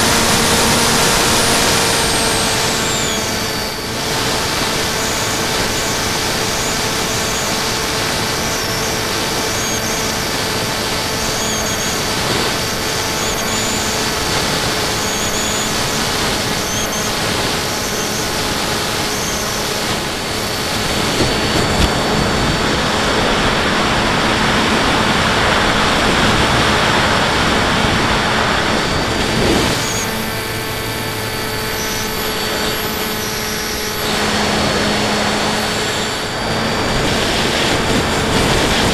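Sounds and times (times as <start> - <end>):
model airplane motor whine: 0.0 - 38.9
wind rushing over microphone: 0.0 - 38.9.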